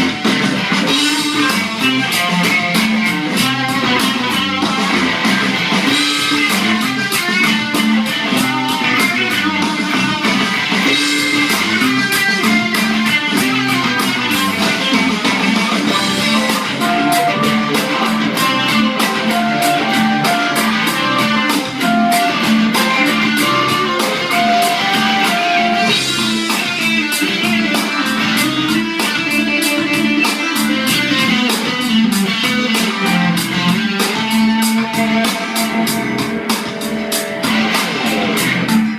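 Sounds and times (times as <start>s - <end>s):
electric guitar playing: 0.0s - 38.9s
steady beat: 0.0s - 38.9s.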